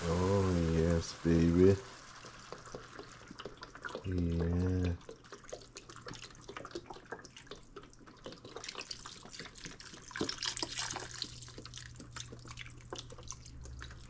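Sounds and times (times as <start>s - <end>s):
broth sizzling in a hot pot: 0.0s - 14.0s.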